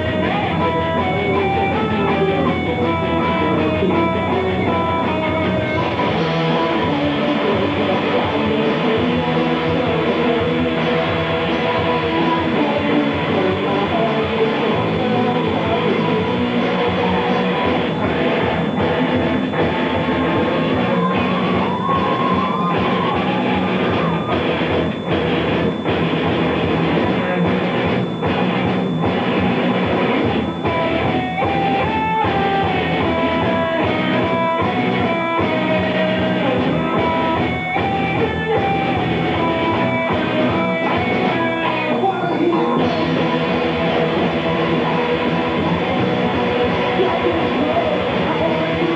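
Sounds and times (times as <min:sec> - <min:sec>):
drum kit beat: 0:00.0 - 0:48.9
electric guitars: 0:00.0 - 0:48.9.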